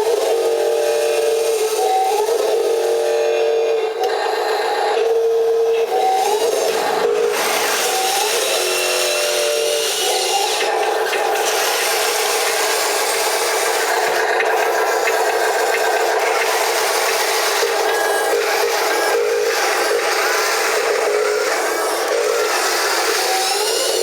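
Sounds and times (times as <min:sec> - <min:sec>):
wheel loader whine and grinding: 0:00.0 - 0:24.0.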